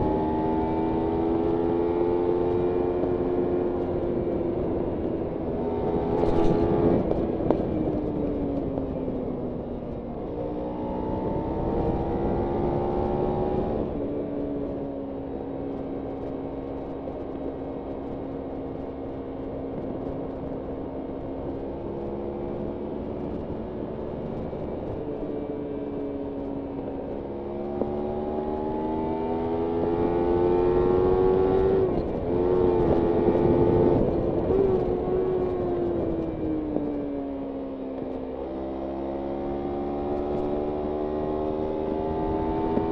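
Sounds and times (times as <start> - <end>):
motorcycle engine revving: 0.0 - 8.9, 10.2 - 42.9.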